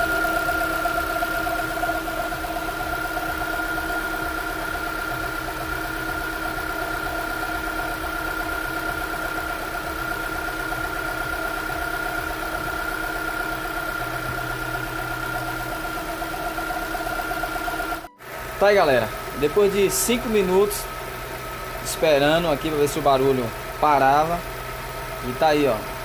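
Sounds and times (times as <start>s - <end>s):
car engine idling: 0.0s - 26.0s
high engine whine: 0.0s - 26.0s.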